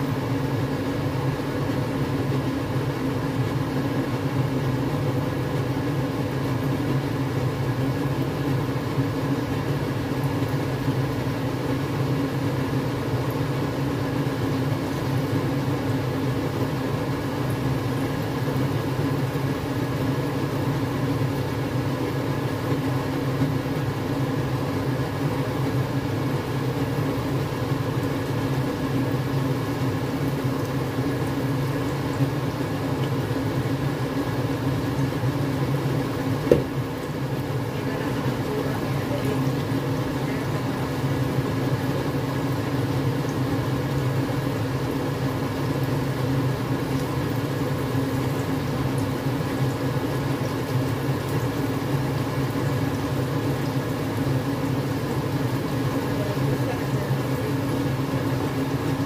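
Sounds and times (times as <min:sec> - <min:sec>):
chicken frying in oil: 0:00.0 - 0:59.0
low mechanical hum: 0:00.0 - 0:59.0.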